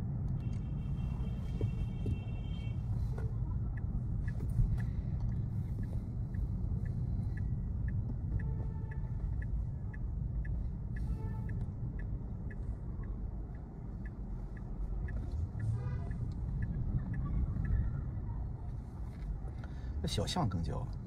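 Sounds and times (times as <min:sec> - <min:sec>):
road and tyre rumble: 0:00.0 - 0:21.0
turn signal ticking: 0:00.0 - 0:21.0.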